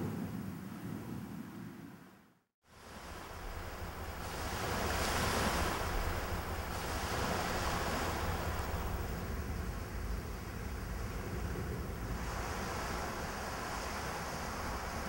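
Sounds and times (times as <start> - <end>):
wind rumble on microphone: 0.0 - 2.2, 2.8 - 15.0
rushing wind: 2.8 - 15.0.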